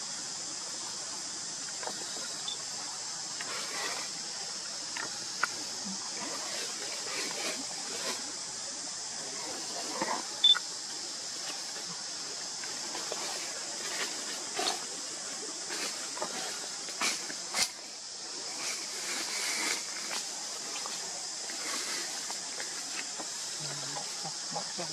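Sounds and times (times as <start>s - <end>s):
high-pitched forest hiss: 0.0s - 24.9s
rustling dry leaves: 2.0s - 10.4s, 11.0s - 24.4s.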